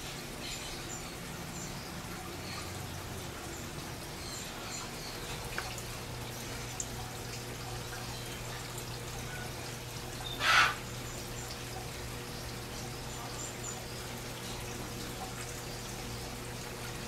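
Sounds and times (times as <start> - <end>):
low steady hum: 0.0 - 17.0
water trickling and splashing: 0.0 - 17.0.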